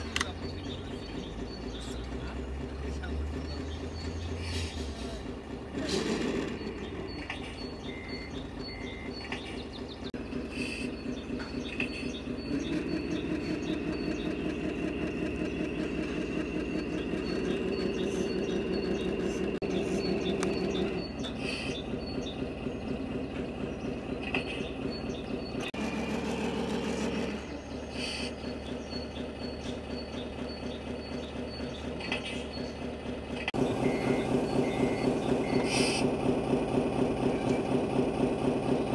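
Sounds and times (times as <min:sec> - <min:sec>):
simulated diesel engine revving: 0:00.0 - 0:38.9.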